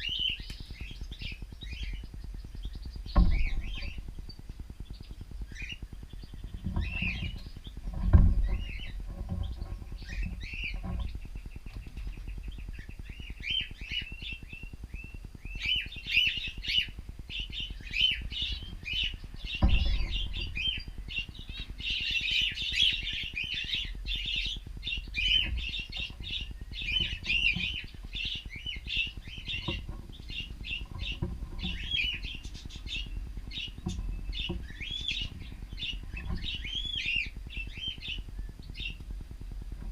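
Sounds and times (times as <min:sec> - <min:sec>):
cockatiels chirping and calling: 0:00.0 - 0:39.2.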